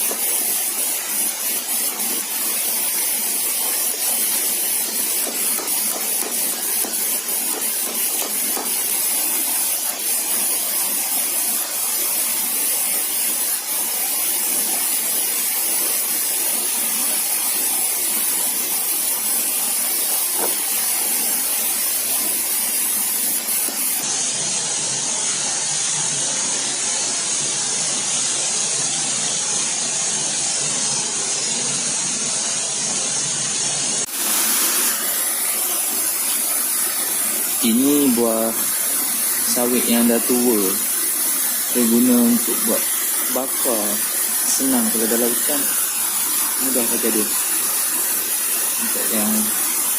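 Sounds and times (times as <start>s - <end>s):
steady hiss of noise: 0.0s - 49.9s.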